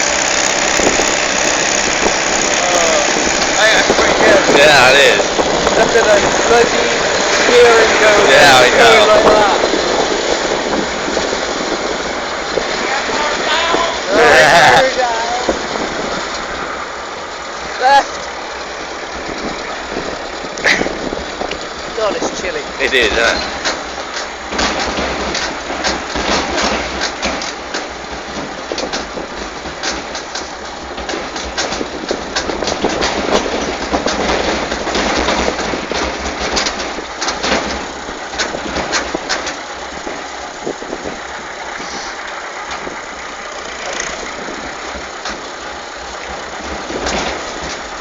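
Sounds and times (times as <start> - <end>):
clattering rattles: 0.0 - 48.0
tractor engine running: 0.0 - 48.0.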